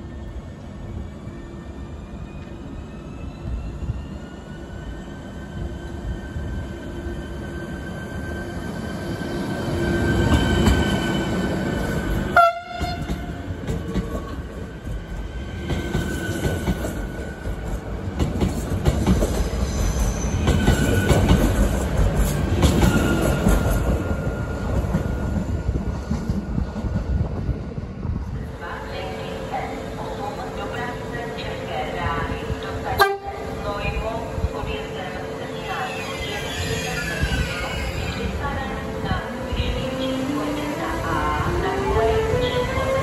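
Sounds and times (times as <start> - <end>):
train wheels rumbling on rails: 7.5 - 43.0.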